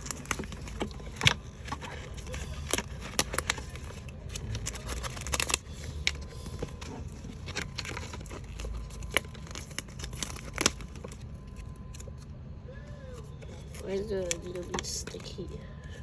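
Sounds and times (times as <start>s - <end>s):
paper sheets crinkling and tearing: 0.0s - 12.3s, 13.1s - 16.0s.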